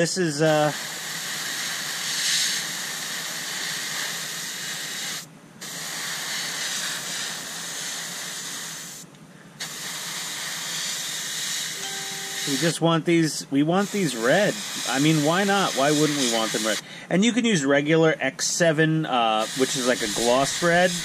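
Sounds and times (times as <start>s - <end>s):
airbrush spraying hiss: 0.4s - 12.8s, 13.8s - 16.8s, 19.2s - 21.0s.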